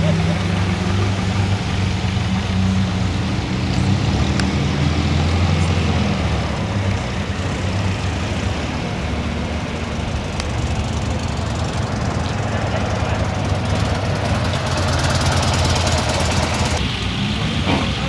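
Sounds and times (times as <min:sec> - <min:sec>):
car engine pulling away: 0:00.0 - 0:18.0.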